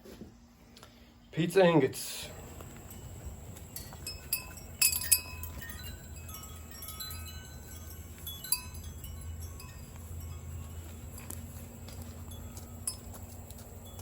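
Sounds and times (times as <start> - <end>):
steady low hum: 0.3 - 14.0
metal wind chimes ringing: 2.2 - 14.0.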